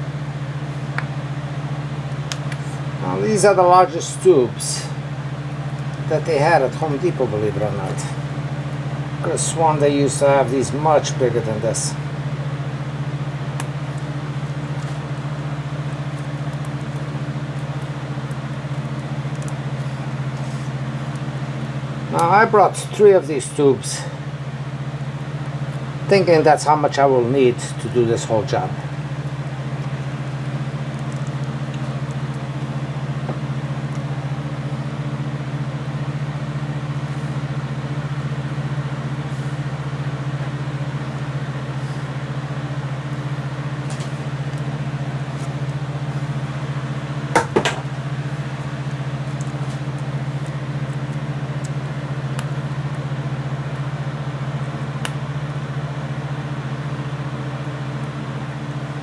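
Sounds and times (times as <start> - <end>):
machine hum: 0.0 - 59.0.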